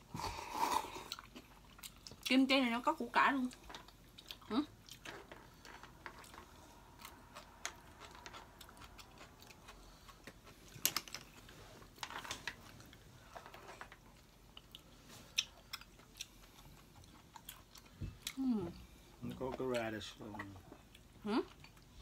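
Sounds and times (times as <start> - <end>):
chewing: 0.6 - 2.3, 3.5 - 12.0, 12.7 - 22.0.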